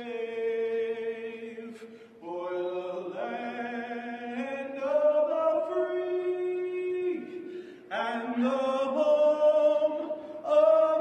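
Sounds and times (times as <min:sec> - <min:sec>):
slow vocal chanting: 0:00.0 - 0:11.0.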